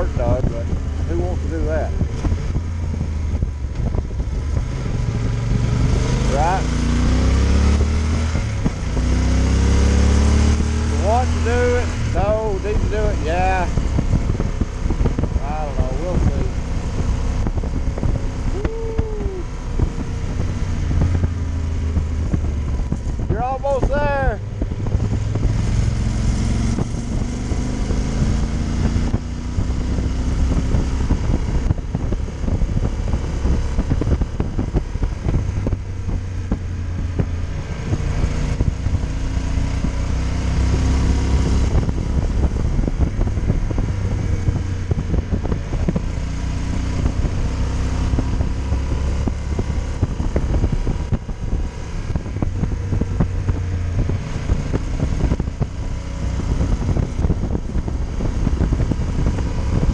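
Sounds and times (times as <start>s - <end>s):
motorcycle engine revving: 0.0s - 59.9s
wind noise on microphone: 0.0s - 59.9s.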